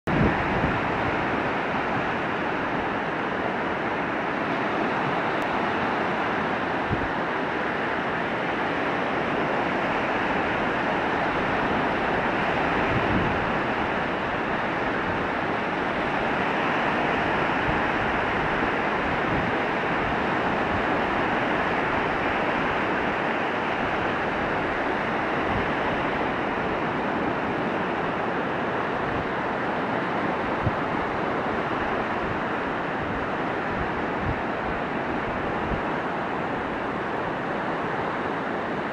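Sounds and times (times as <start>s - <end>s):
wind buffeting microphone: 0.0s - 38.9s
small waves breaking on shore: 0.1s - 38.9s.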